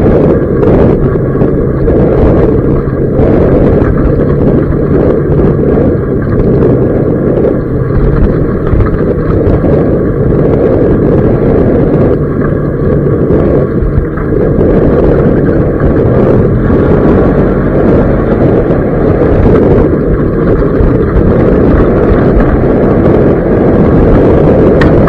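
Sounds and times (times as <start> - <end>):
vehicle engine running: 0.0 - 25.0
wind rumble on microphone: 0.0 - 25.0.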